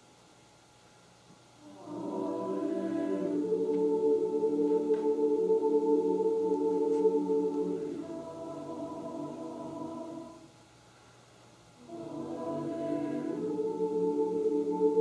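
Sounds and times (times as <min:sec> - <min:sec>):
choir singing held chords: 0:01.6 - 0:10.6, 0:11.8 - 0:15.0.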